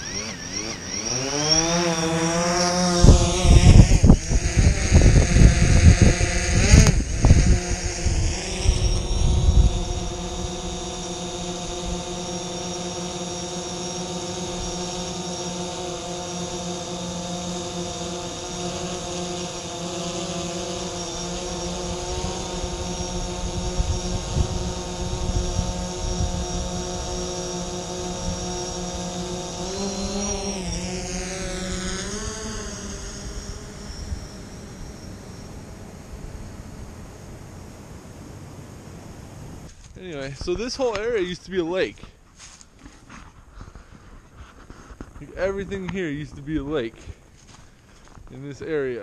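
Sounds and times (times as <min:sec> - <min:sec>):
drone propellers whining: 0:00.0 - 0:49.0.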